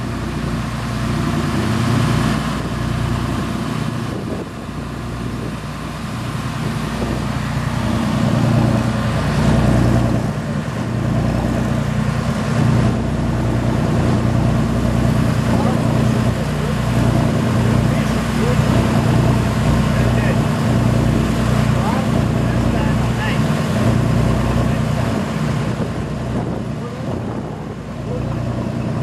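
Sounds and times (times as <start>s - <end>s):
churning wake water: 0.0s - 29.0s
motorboat engine drone: 0.0s - 29.0s.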